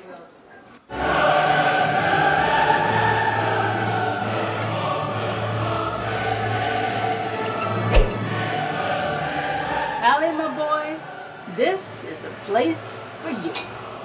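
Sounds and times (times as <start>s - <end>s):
choir singing held chords: 0.9s - 14.0s.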